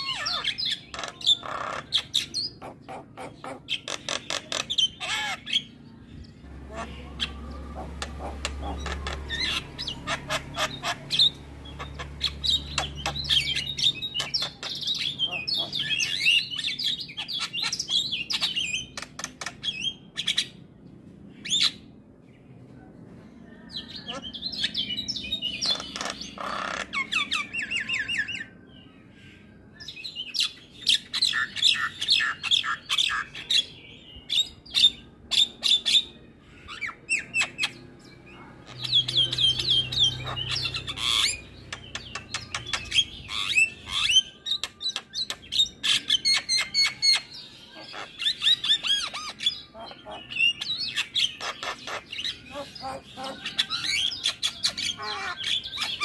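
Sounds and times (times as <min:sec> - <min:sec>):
myna bird singing: 0:00.0 - 0:56.0.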